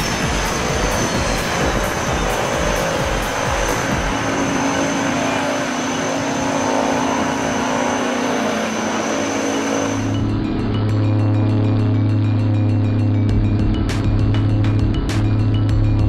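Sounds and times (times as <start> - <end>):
low hum: 0.0 - 16.0
turboprop aircraft taking off: 0.0 - 16.0.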